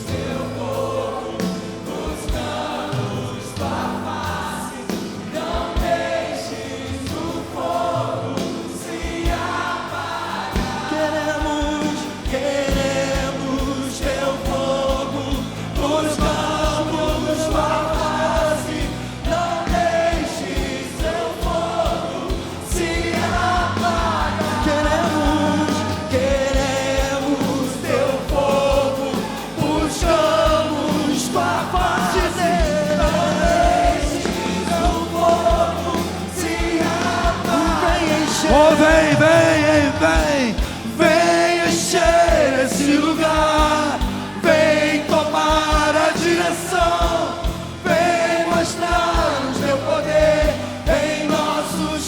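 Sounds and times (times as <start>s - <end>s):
choir singing: 0.0s - 52.0s
band with low beats: 8.5s - 52.0s.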